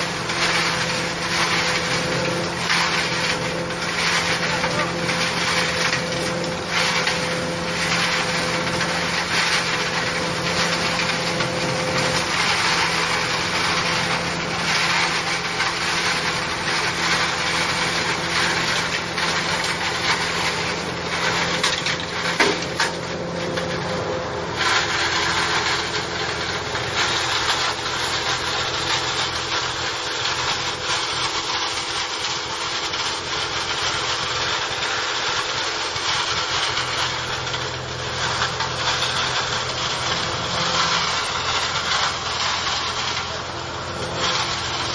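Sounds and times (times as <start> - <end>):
blower rushing noise: 0.0 - 44.9
tractor engine under load: 0.0 - 44.9.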